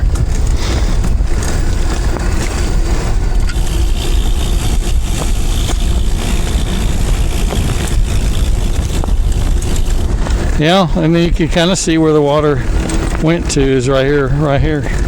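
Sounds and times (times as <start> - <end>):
trike rolling noise: 0.0 - 15.0
wind rumble on microphone: 0.0 - 15.0.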